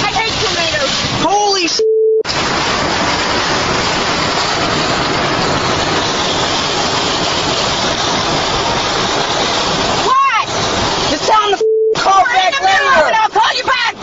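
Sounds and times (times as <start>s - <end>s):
loud rushing noise: 0.0s - 1.5s, 2.3s - 12.8s.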